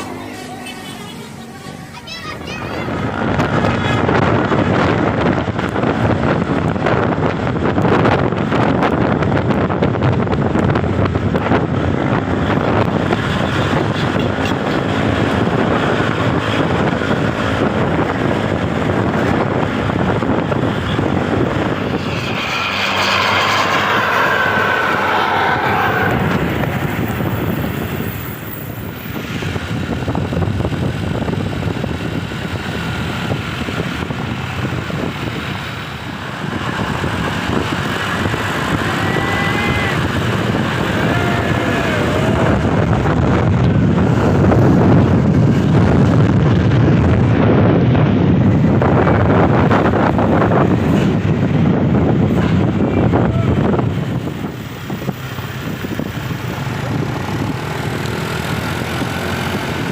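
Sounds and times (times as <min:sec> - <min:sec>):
traffic engine and wind noise: 0:00.0 - 0:59.9.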